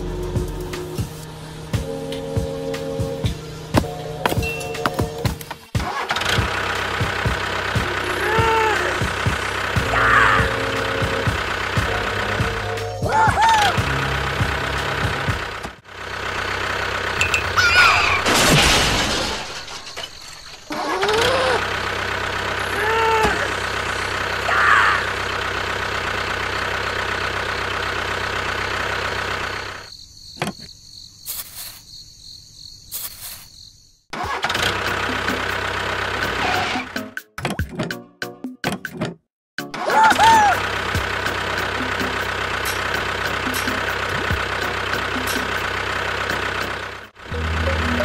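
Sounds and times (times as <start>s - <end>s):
tractor engine drone: 0.0s - 30.5s, 34.2s - 37.0s, 39.6s - 48.0s.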